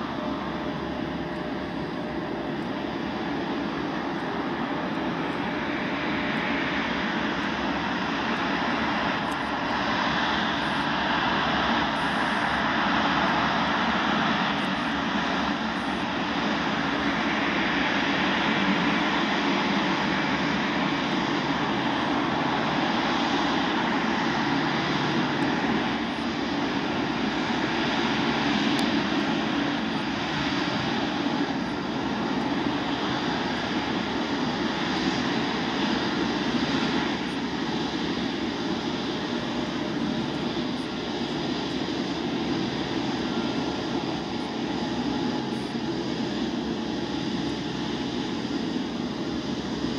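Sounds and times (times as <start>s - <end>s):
jet engines at taxi thrust: 0.0s - 49.9s.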